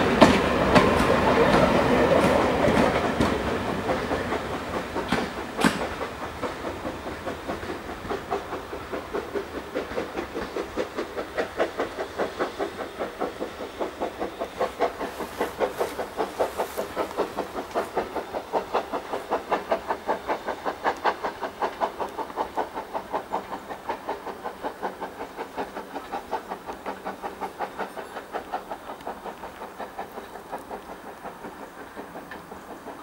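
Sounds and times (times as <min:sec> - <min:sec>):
steam locomotive chuffing: 0:00.0 - 0:33.0.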